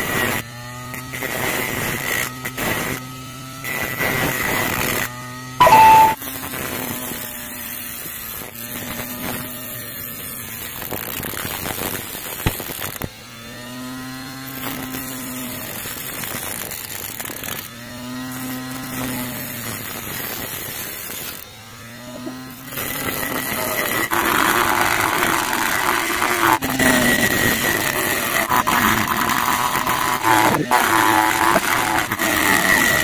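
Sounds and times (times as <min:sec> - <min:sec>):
angle grinder cutting metal: 0:00.0 - 0:33.0.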